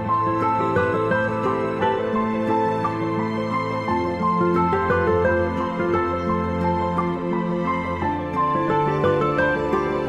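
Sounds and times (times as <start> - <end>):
gentle melodic background music: 0.0 - 10.0.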